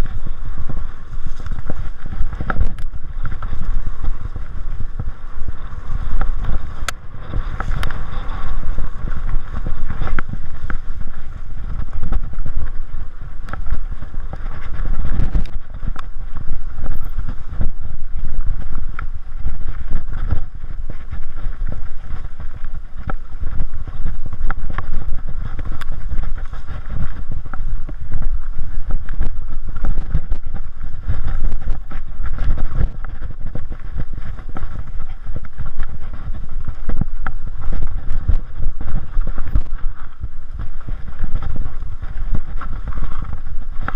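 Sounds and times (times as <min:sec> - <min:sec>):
bike knocking and rattling: 0:00.0 - 0:43.9
wind rushing over microphone: 0:00.0 - 0:43.9.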